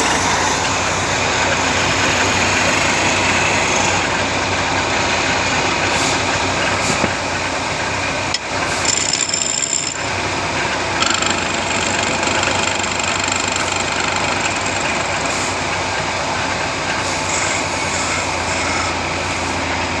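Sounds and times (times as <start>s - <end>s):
woodworking machine motor humming: 0.0s - 20.0s.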